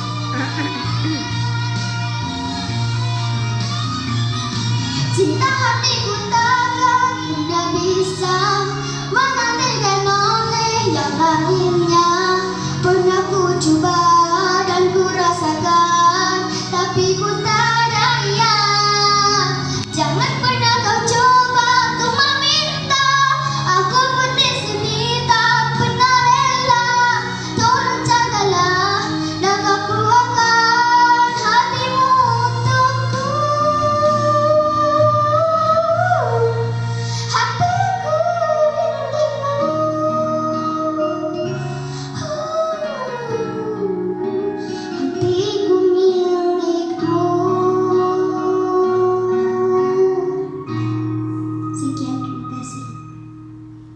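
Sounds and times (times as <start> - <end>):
person singing pop ballad: 0.0 - 53.1
instrumental accompaniment: 0.0 - 53.9.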